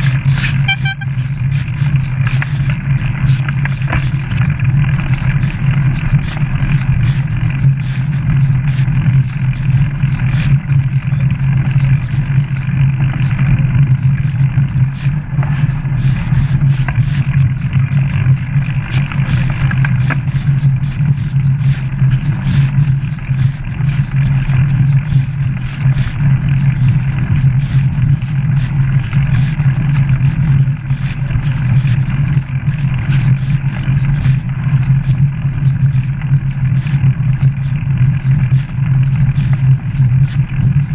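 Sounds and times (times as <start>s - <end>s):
bike tyres rumbling on tarmac: 0.0s - 40.9s.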